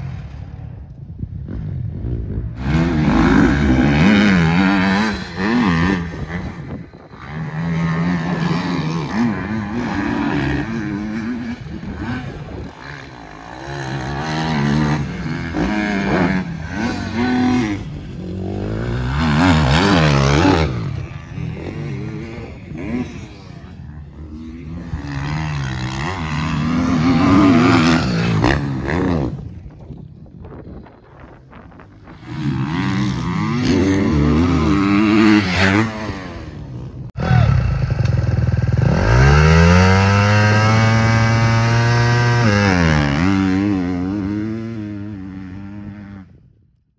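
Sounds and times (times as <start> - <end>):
motocross bike engine revving: 1.4 - 29.6, 31.8 - 46.3.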